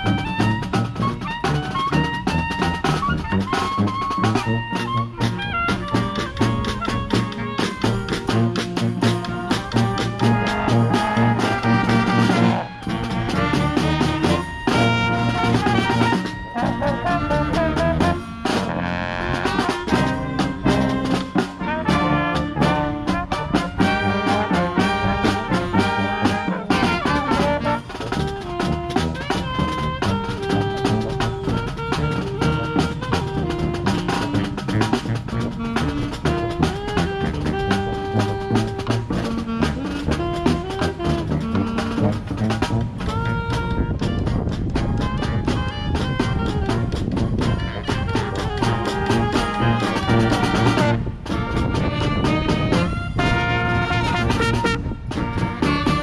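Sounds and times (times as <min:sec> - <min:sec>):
brass band playing: 0:00.0 - 0:56.0
marching drums: 0:00.0 - 0:56.0.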